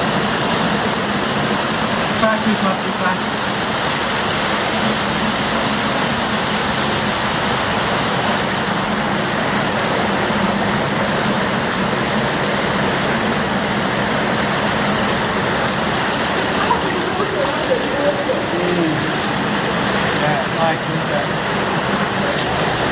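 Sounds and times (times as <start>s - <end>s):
cave stream water rushing: 0.0s - 22.9s.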